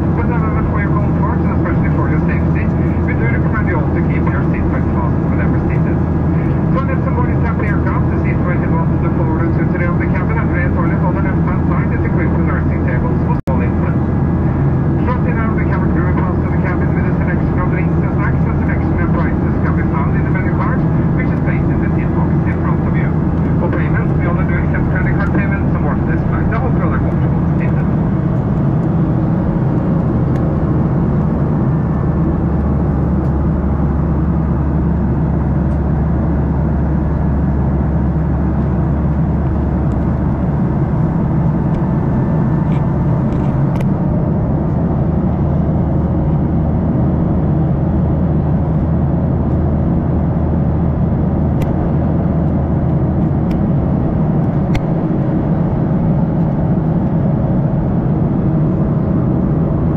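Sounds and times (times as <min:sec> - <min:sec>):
jet engine hum: 0:00.0 - 0:59.9.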